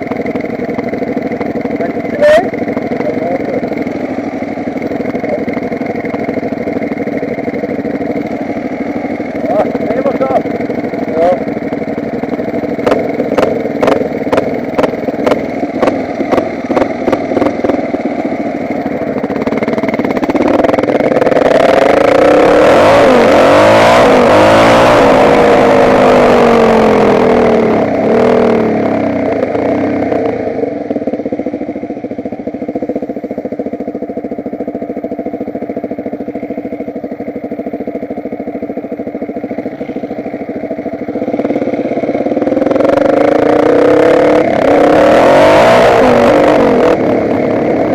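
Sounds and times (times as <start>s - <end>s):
off-road motorcycle engine revving: 0.0s - 47.9s.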